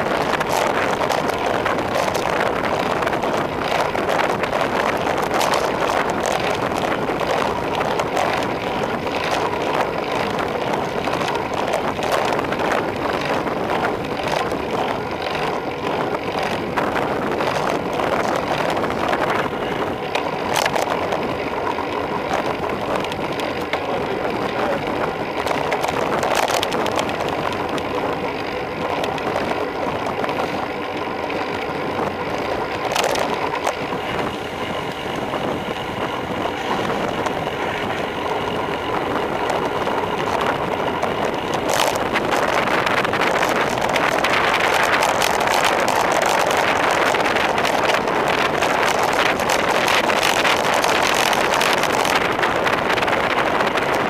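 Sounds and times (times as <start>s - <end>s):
road noise: 0.0s - 54.0s
wind rushing: 0.0s - 54.0s.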